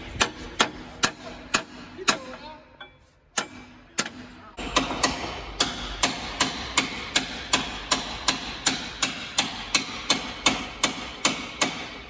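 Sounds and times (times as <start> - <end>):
hammer striking metal: 0.0 - 12.0.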